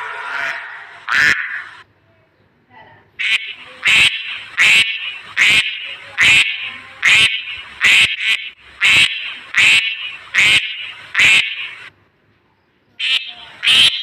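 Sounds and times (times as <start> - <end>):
farm animal calling: 0.0 - 1.8, 3.2 - 11.9, 13.0 - 14.0.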